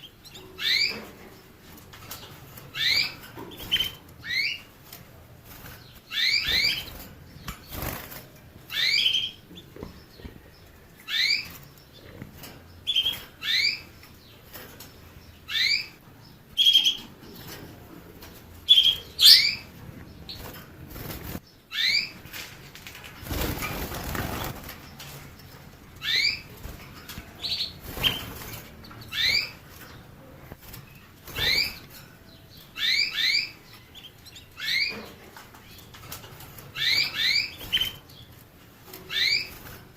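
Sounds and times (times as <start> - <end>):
canary chirping: 0.0 - 22.5, 23.2 - 39.9.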